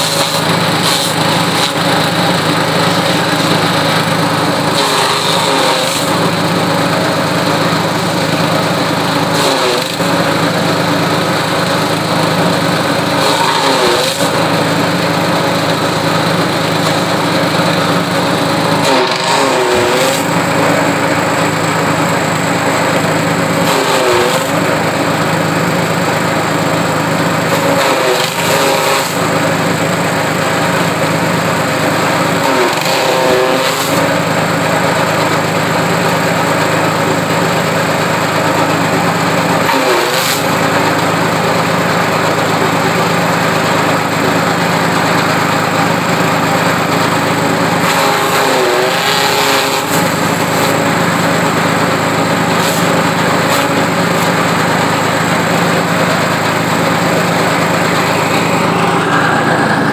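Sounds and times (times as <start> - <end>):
grass fed through cutter: 0.0 - 59.9
small petrol engine running: 0.0 - 59.9.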